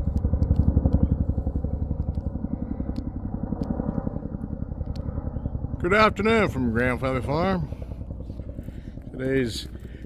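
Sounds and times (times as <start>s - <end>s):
helicopter rotor blades beating: 0.0s - 10.0s
low helicopter drone: 0.0s - 10.0s.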